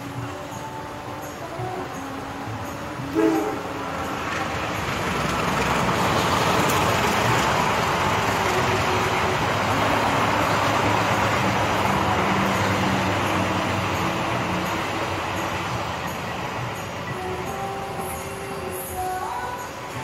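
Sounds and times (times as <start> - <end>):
road vehicles idling: 0.0 - 20.0
train wheels rumbling on rail: 0.0 - 20.0.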